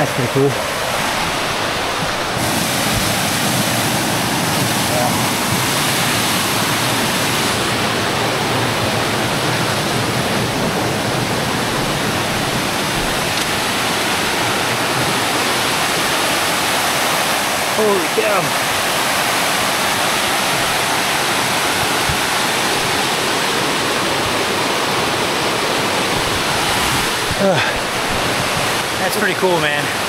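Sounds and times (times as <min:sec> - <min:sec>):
water cascading over rock: 0:00.0 - 0:30.0.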